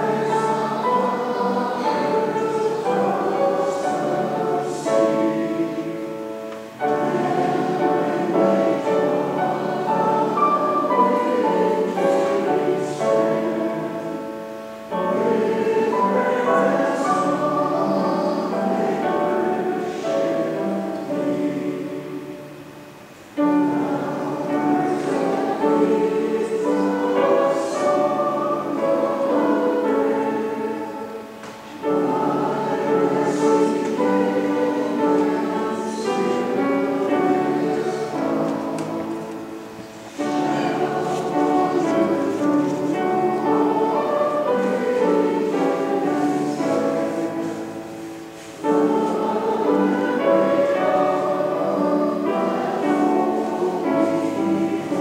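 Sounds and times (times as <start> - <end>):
congregation singing a hymn: 0.0 - 55.0
piano accompaniment: 0.0 - 55.0.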